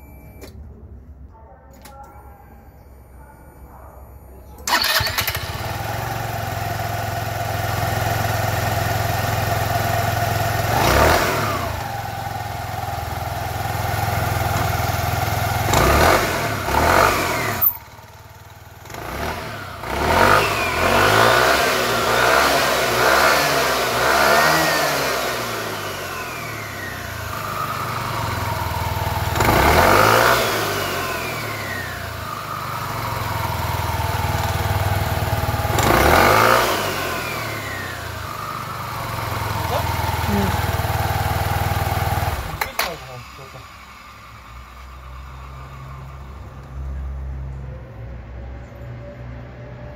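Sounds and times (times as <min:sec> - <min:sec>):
scooter engine revving: 0:04.6 - 0:46.6
drive belt and clutch spinning: 0:04.7 - 0:46.8.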